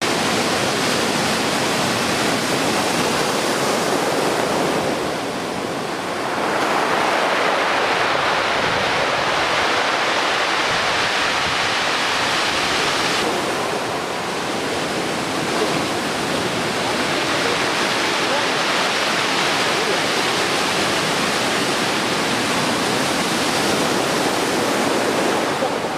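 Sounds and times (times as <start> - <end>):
surf breaking on beach: 0.0 - 25.9.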